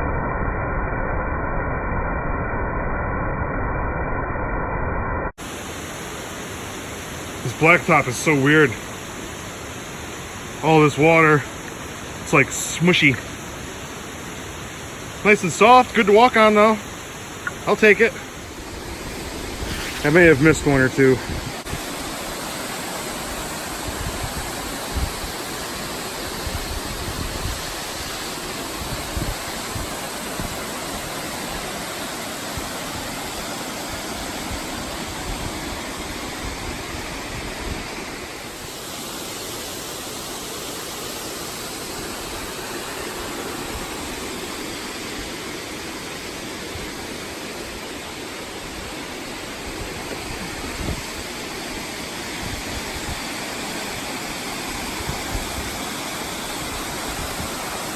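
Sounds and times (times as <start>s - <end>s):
steady rushing noise: 0.0s - 57.9s.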